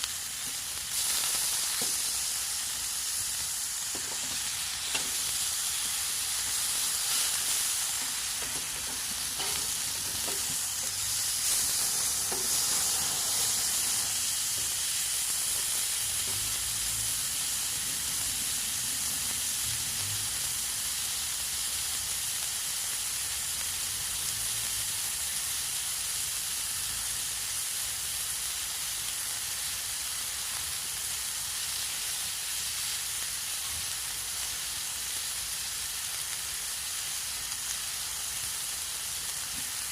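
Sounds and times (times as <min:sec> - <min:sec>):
faint fire crackles: 0:00.0 - 0:39.9
steak sizzling in a frying pan: 0:00.0 - 0:39.9.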